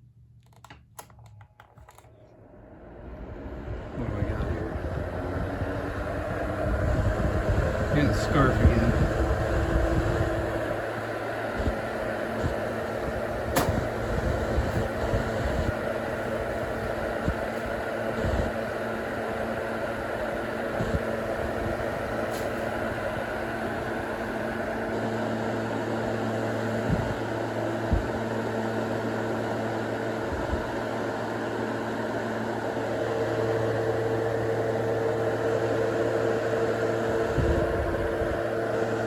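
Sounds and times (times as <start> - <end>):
table fan whirring: 0.0 - 39.0.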